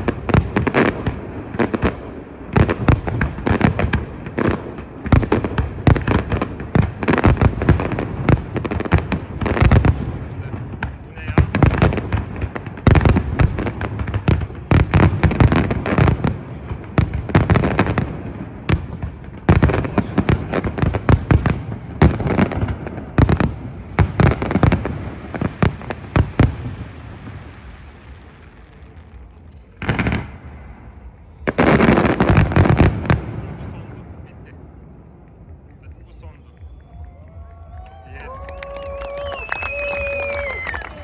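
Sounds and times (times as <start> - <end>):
fireworks bursting and crackling: 0.0 - 41.0
low fireworks rumble: 0.0 - 41.0.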